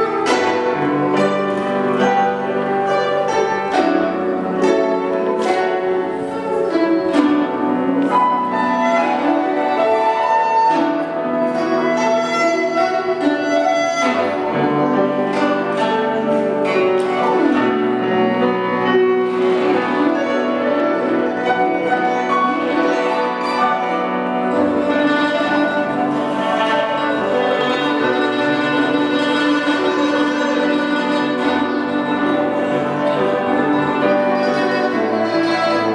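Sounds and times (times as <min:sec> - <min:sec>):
bamboo flute melody: 0:00.0 - 0:35.9
piano accompaniment: 0:00.0 - 0:35.9
zither accompaniment: 0:00.0 - 0:35.9.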